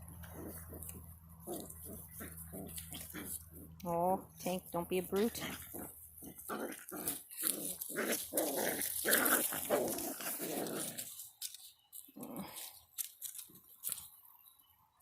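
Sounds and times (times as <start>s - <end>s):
puppies play-growling: 0.0s - 4.4s, 5.0s - 13.7s.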